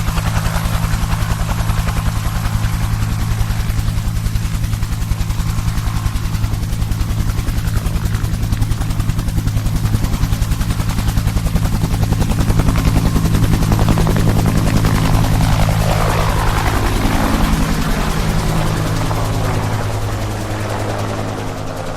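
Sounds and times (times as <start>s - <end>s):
helicopter engine hum: 0.0s - 21.9s
helicopter rotor beat: 0.0s - 21.9s.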